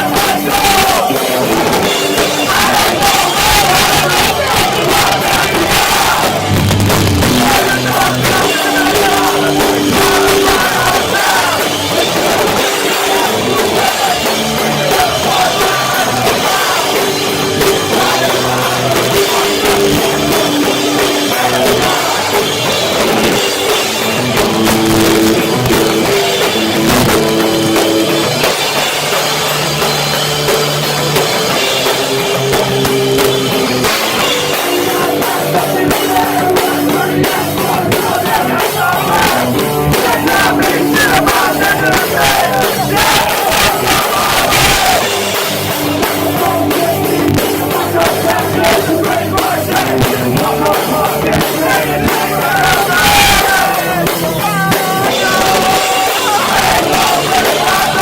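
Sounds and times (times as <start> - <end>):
distorted electric guitars: 0.0 - 58.0
pounding drums: 0.0 - 58.0.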